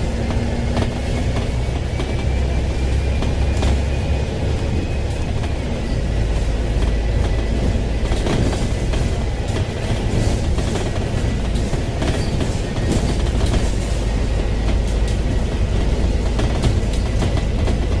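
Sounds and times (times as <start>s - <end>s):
bus body rattles and knocks: 0.0s - 18.0s
bus diesel engine rumble: 0.0s - 18.0s.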